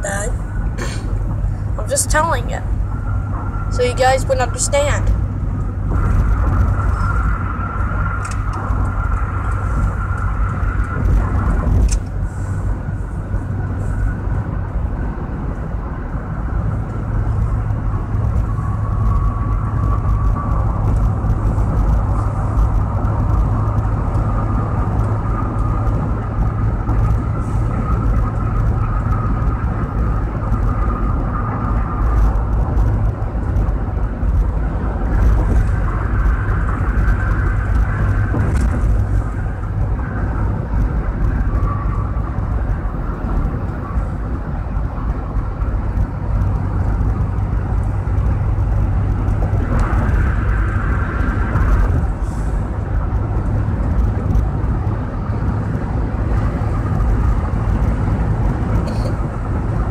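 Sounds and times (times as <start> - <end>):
car road and engine noise: 0.0 - 59.9
faint steady whine: 0.0 - 59.9.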